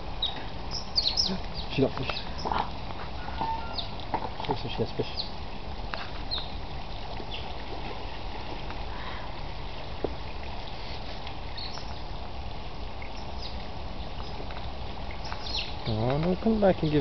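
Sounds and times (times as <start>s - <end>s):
stream water rushing over rocks: 0.0s - 17.0s.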